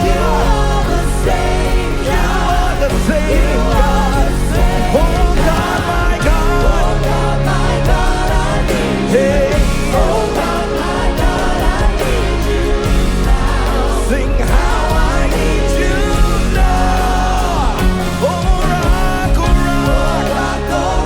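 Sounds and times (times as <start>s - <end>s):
person singing: 0.0s - 21.0s
worship band playing: 0.0s - 21.0s.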